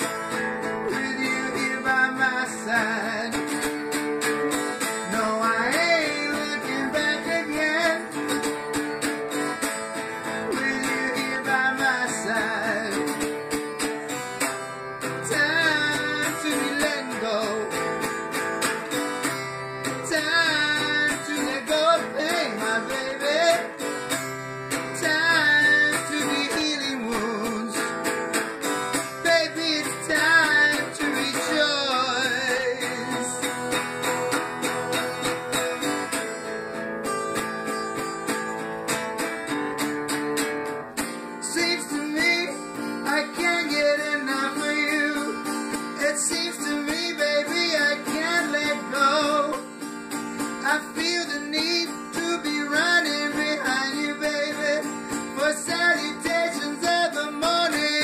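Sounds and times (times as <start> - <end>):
rock guitar song: 0.0 - 58.0.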